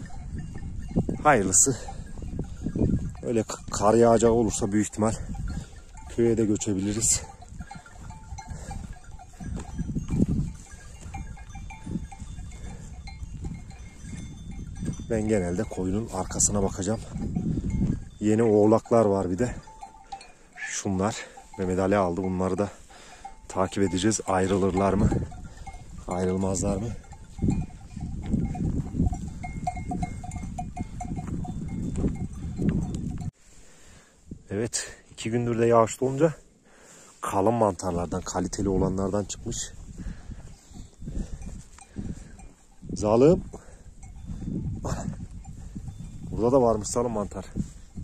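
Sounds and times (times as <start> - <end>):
sheep bells clinking: 0.0 - 33.6, 34.7 - 36.6, 37.2 - 48.0.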